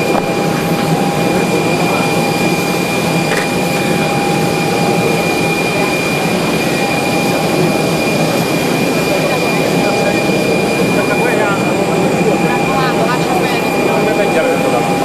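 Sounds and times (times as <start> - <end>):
turbine engine idling: 0.0 - 15.0.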